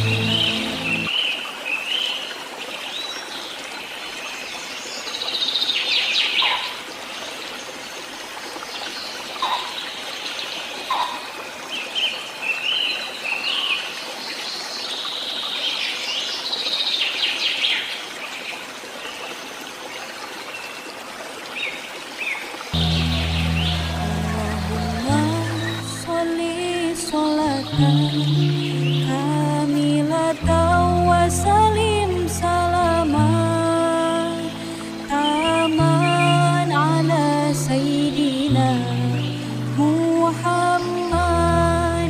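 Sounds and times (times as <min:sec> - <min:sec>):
songbirds chirping: 0:00.0 - 0:19.3, 0:21.6 - 0:33.6, 0:34.2 - 0:42.0
running water hiss: 0:00.0 - 0:42.0.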